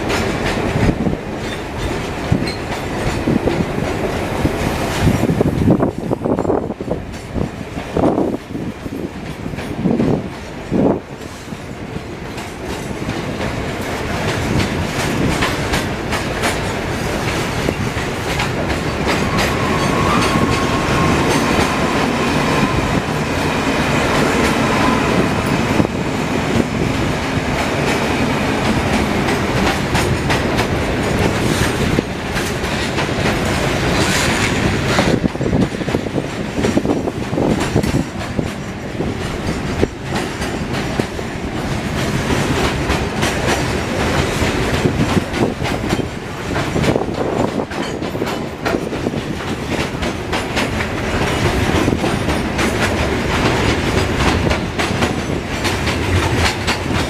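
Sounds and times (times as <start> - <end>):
train wheels clicking over rail joints: 0.0 - 57.0.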